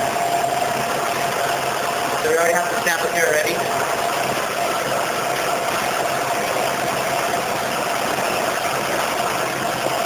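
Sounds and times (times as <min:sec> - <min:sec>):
constant whine: 0:00.0 - 0:10.0
refrigeration machine hum: 0:00.0 - 0:10.0.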